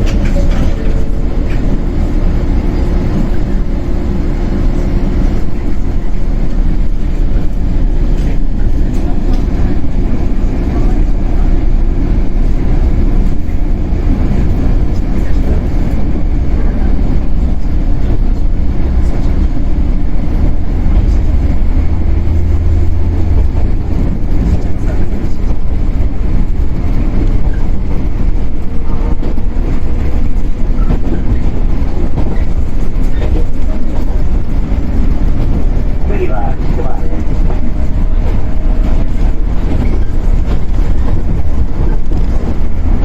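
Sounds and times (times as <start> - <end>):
train traction motors rumbling: 0.0 - 43.0
train wheels on rails: 0.0 - 43.0.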